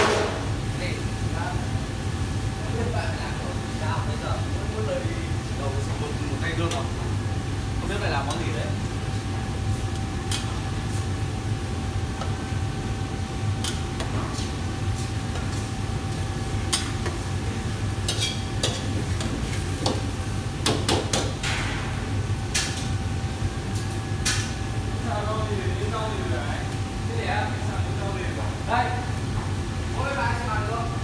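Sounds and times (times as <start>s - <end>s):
kitchen equipment hum: 0.0s - 31.0s.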